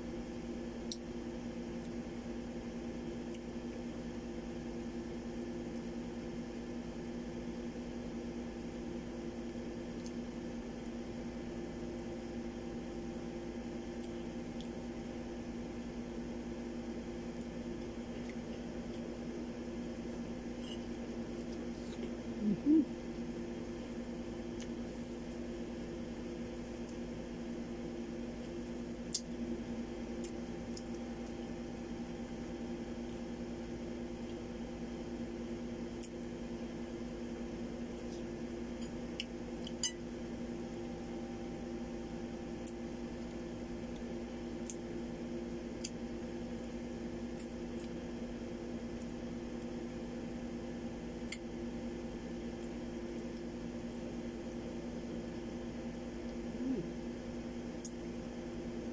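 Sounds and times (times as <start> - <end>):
low hum with held tones: 0.0 - 58.9.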